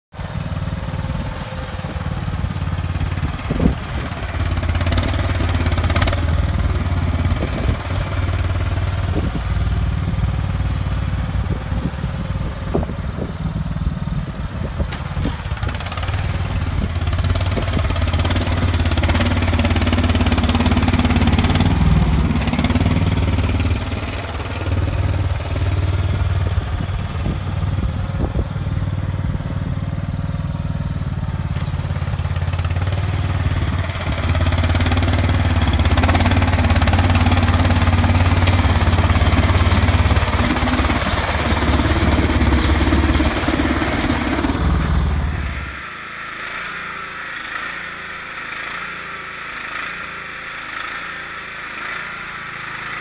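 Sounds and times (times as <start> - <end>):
lawn tractor engine running: 0.1 - 53.0
plow blade pushing snow: 0.1 - 53.0.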